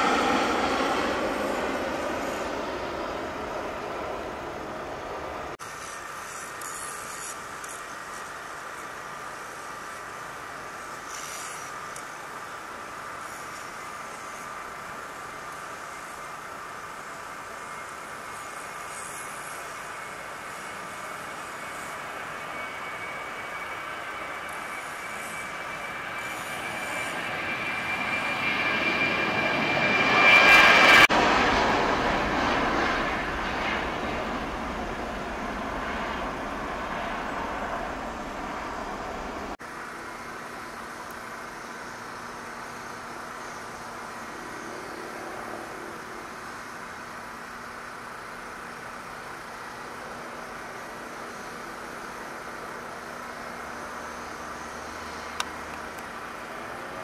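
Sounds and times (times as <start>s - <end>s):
jet airliner taking off: 0.0s - 57.0s.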